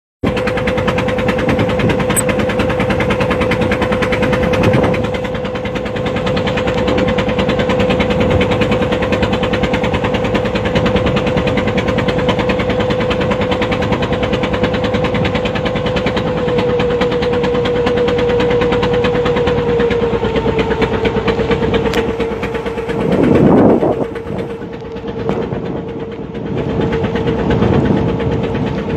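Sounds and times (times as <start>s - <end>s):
engine humming steadily: 0.2s - 28.9s.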